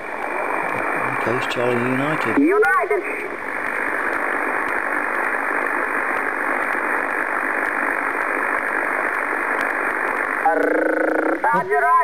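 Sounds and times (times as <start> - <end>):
radio band noise hiss: 0.0 - 12.0.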